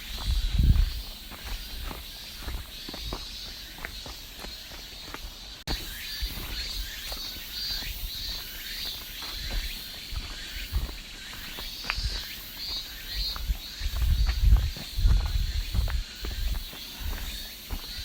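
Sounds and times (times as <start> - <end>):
cicada pulsing buzz: 0.0 - 18.0.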